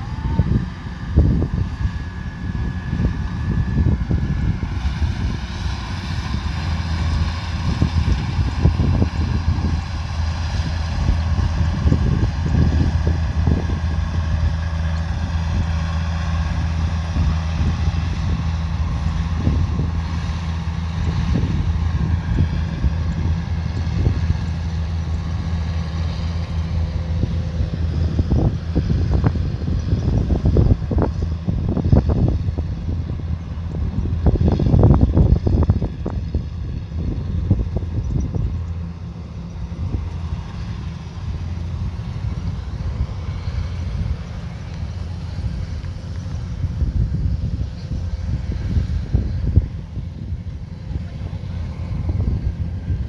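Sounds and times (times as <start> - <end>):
combine harvester engine hum: 0.0 - 53.0.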